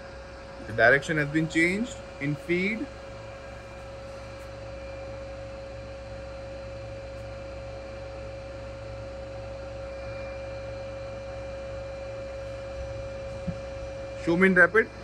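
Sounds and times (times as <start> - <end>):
milling machine feed drive hum: 0.0 - 15.0.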